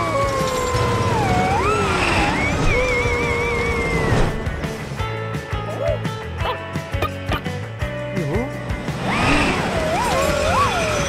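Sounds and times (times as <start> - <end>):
cartoon background music: 0.0 - 11.0.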